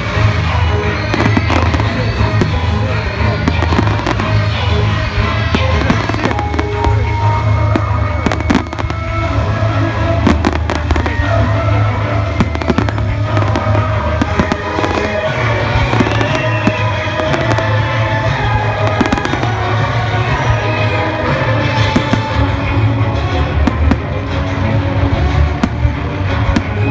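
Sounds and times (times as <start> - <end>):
fireworks bangs and crackles: 0.0 - 26.9
loud music with bass line: 0.0 - 26.9.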